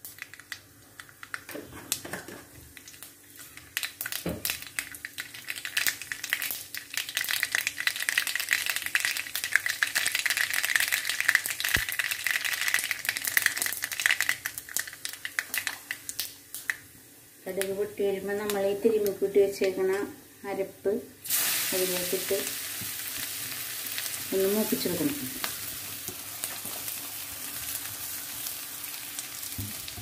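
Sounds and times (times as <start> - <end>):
seeds popping in hot oil: 0.0 - 20.0, 21.2 - 30.0.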